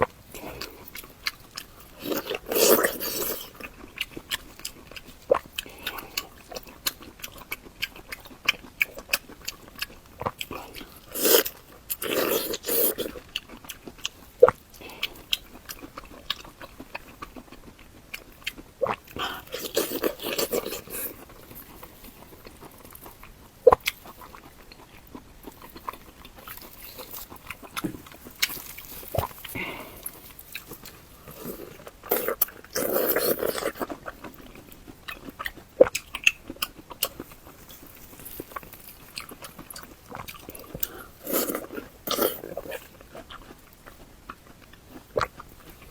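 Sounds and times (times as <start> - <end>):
biting and chewing: 0.0 - 45.9.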